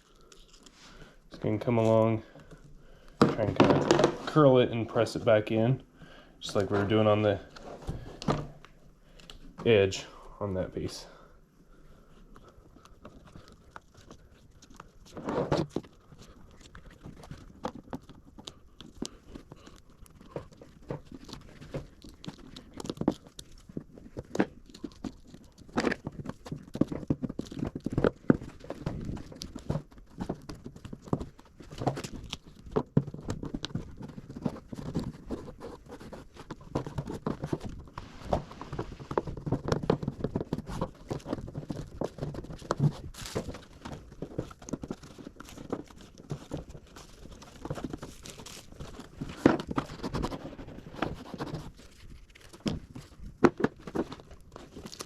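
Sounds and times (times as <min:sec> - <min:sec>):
vinyl crinkling and crackling: 0:00.0 - 0:55.0.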